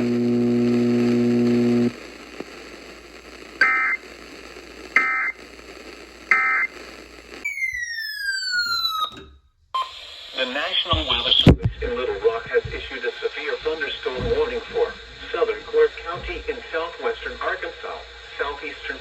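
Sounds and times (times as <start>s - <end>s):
faint radio hiss: 0.0s - 7.4s, 9.8s - 19.0s.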